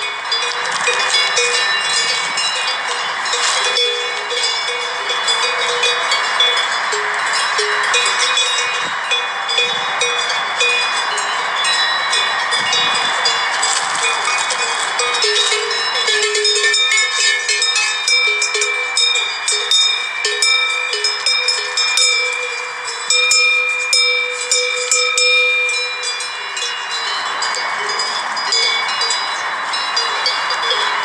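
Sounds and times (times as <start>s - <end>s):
metal bells clanking and ringing: 0.0s - 31.0s.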